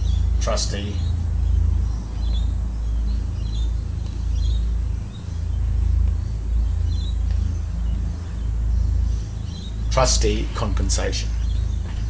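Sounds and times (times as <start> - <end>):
low-pitched rumble: 0.0 - 12.0.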